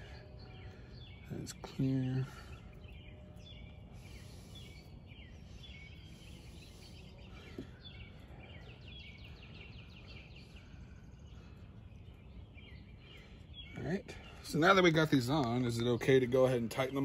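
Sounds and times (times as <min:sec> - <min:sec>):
birds chirping and trilling: 0:00.0 - 0:17.0
low background hum: 0:00.0 - 0:17.0.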